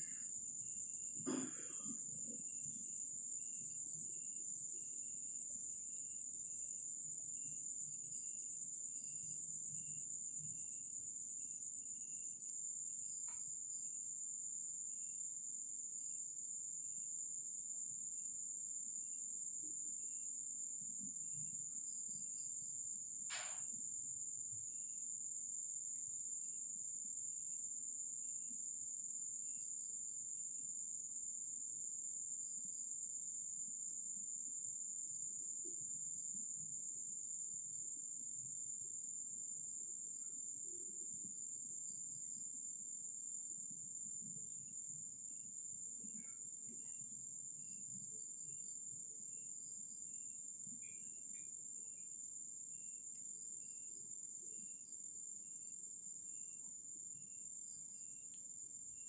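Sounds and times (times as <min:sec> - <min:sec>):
high-pitched insect trill: 0:00.0 - 0:59.0
lower insect chirp: 0:00.0 - 0:59.0.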